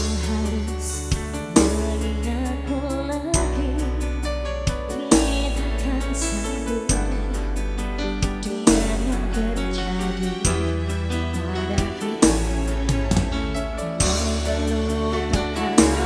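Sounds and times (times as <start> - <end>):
band music: 0.0 - 16.0.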